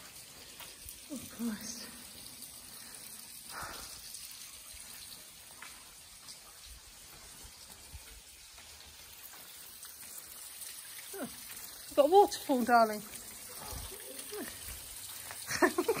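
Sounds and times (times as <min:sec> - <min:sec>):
faint water drips: 0:00.0 - 0:16.0
small waterfall splashing: 0:00.0 - 0:16.0.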